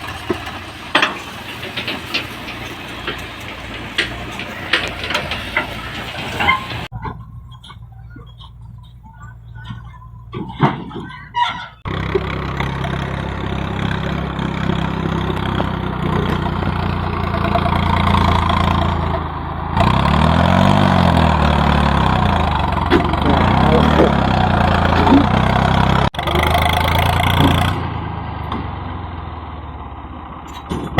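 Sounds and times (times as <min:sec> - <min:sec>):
tractor diesel engine revving: 0:00.0 - 0:30.9.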